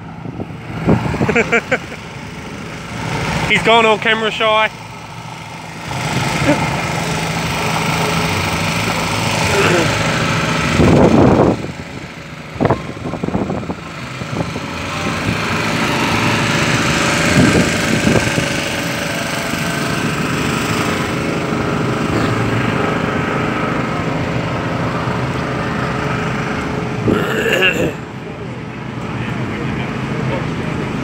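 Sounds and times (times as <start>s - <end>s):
engine running: 0.0s - 31.0s.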